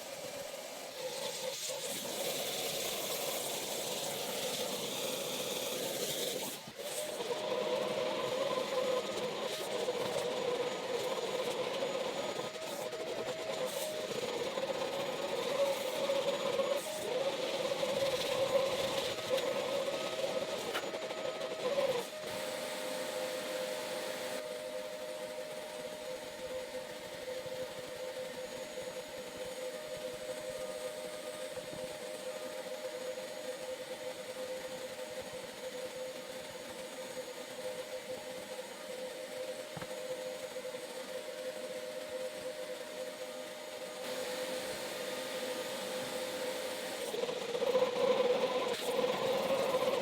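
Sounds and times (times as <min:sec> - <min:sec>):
small electric motor whining: 0:00.0 - 0:50.0.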